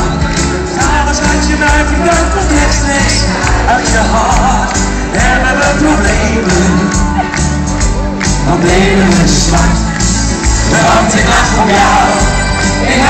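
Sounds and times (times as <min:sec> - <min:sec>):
live pop music through speakers: 0:00.0 - 0:13.0
crowd cheering: 0:02.0 - 0:13.0.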